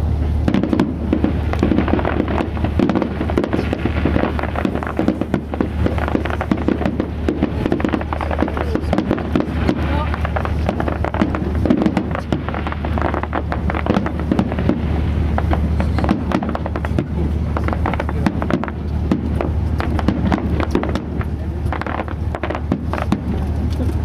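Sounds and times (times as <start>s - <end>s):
fireworks bangs and crackling: 0.0s - 24.0s
steady low drone: 0.0s - 24.0s.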